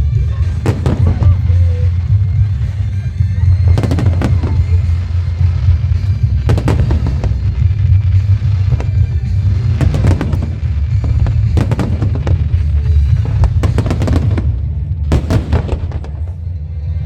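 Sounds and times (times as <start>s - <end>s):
fireworks bangs and crackles: 0.0s - 17.0s
music with heavy bass: 0.0s - 17.0s.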